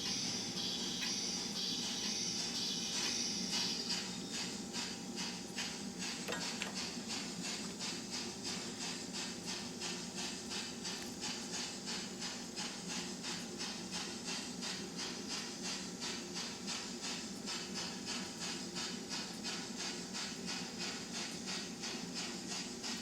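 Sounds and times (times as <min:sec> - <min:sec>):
model steam locomotive chuffs: 0:00.0 - 0:23.0.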